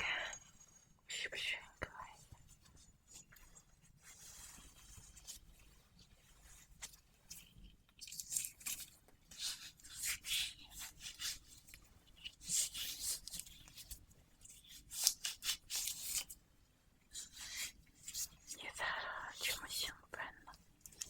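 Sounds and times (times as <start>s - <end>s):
rubbing and rustling strokes: 0.0s - 21.0s.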